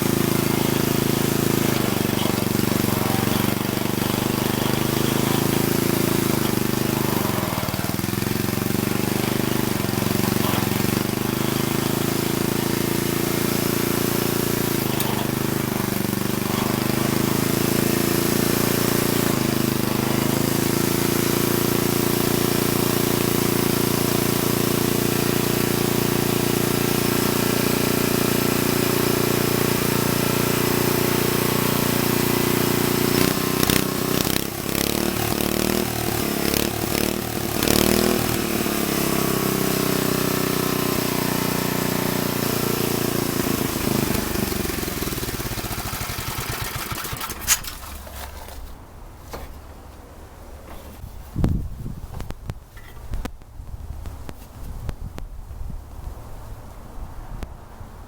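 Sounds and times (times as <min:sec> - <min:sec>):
tiller engine running: 0:00.0 - 0:49.8.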